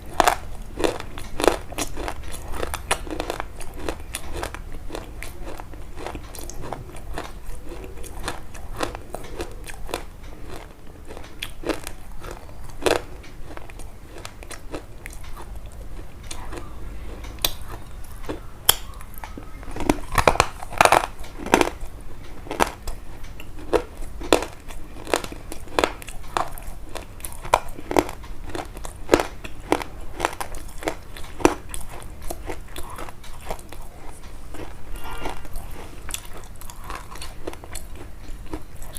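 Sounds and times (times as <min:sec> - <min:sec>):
close crunching and crackling: 0:00.0 - 0:38.9.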